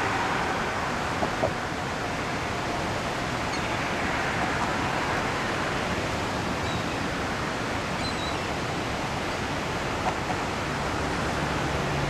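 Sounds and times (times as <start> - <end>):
water rushing over dam spillway: 0.0 - 12.0.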